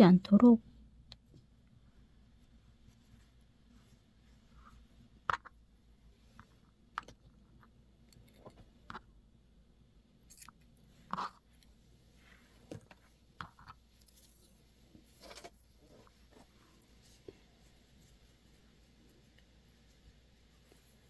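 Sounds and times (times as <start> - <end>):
faint ticks and rustles of yarn: 0.3 - 9.1, 10.8 - 21.0.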